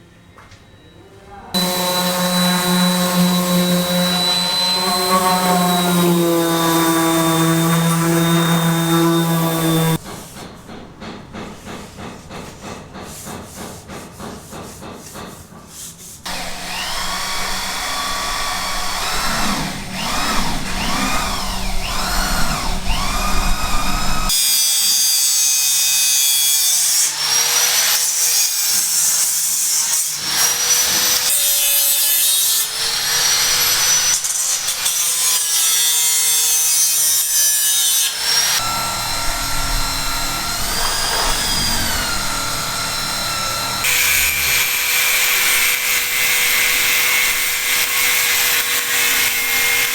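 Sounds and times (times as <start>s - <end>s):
tool cutting with squealing: 1.5s - 10.0s, 16.3s - 49.9s
rhythmic sawing strokes: 1.5s - 49.9s.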